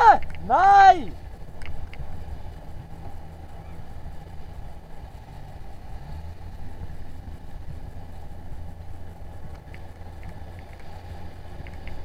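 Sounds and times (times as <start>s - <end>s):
outboard motor humming: 0.0s - 12.0s
water noise: 0.0s - 12.0s
wind: 0.0s - 12.0s.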